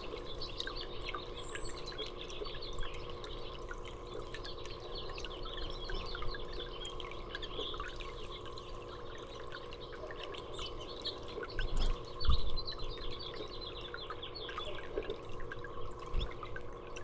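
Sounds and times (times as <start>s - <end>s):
small birds chirping: 0.0s - 16.5s
faint steady hum: 0.0s - 17.0s.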